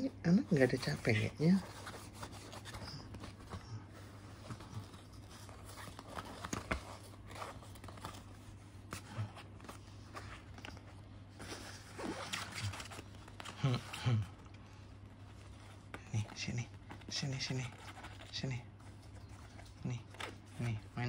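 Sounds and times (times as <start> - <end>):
kitten paws scratching bedsheet: 0.0 - 21.0
steady low hum: 0.0 - 21.0.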